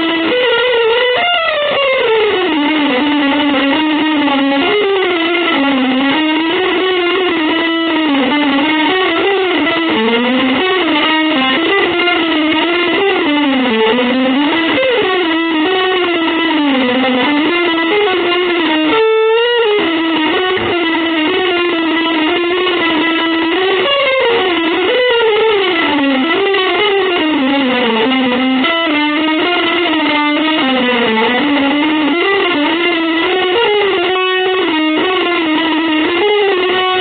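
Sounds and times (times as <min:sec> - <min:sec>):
electric guitar sliding note: 0:00.0 - 0:37.0.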